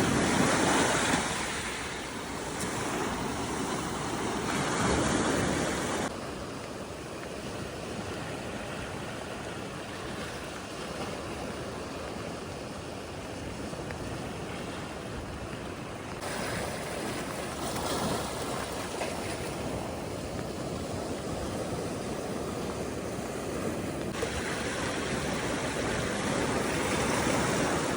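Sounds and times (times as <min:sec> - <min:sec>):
waves washing on shore: 0:00.0 - 0:27.9.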